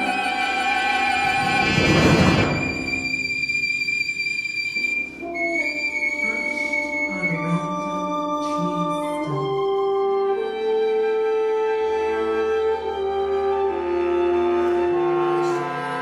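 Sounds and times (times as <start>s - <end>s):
chamber ensemble playing: 0.0s - 16.0s.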